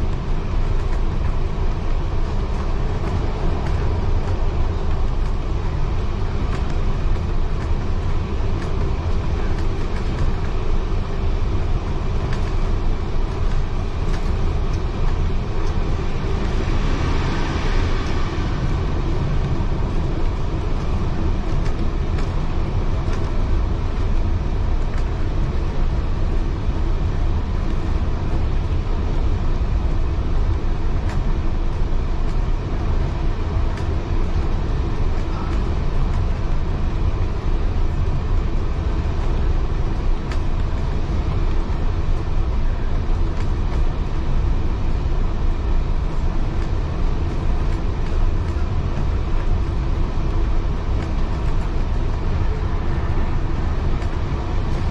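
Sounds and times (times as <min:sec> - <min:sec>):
train wheels rolling on rails: 0:00.0 - 0:54.9.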